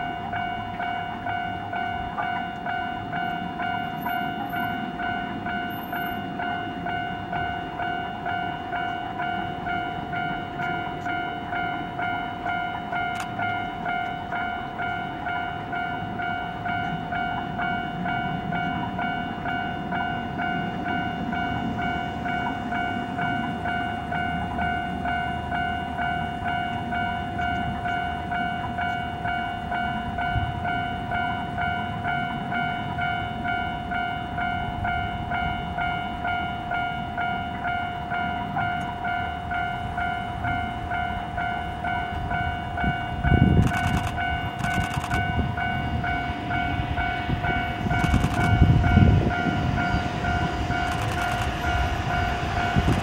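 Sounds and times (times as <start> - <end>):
level-crossing warning bell: 0.0 - 53.0
train rumble: 0.0 - 53.0.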